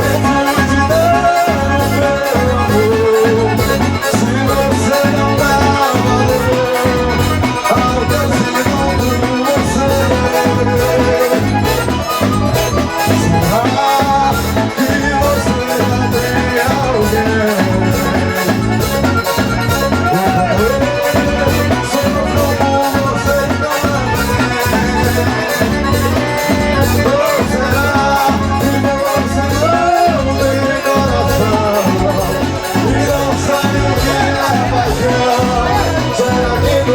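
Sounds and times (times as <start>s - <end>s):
accordion: 0.0s - 36.9s
percussion beat: 0.0s - 36.9s.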